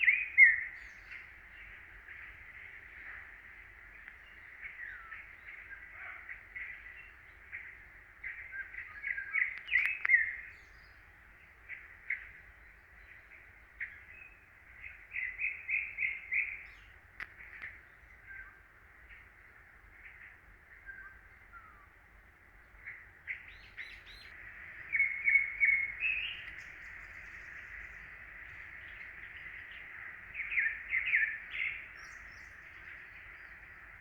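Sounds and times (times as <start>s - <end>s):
songbirds chirping and whistling: 0.0s - 34.0s.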